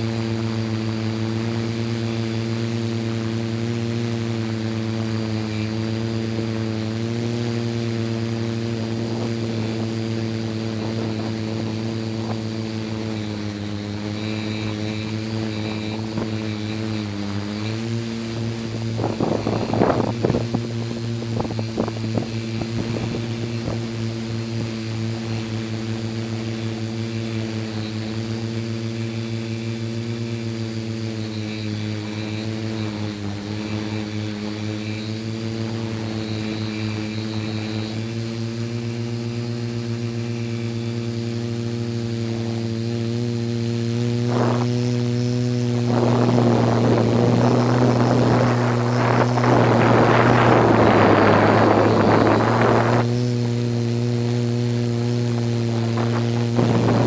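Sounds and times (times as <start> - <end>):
drone motors humming: 0.0 - 57.0.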